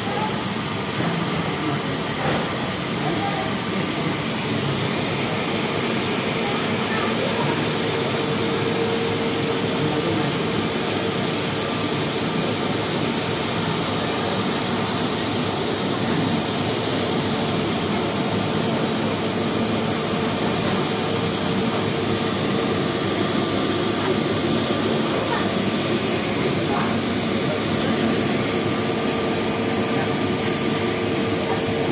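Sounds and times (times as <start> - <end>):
jet engines at taxi power: 0.0 - 31.9.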